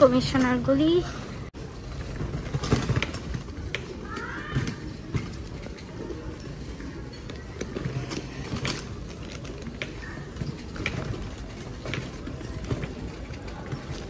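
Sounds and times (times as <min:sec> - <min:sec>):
rickshaw frame and chain rattling: 0:00.0 - 0:14.0.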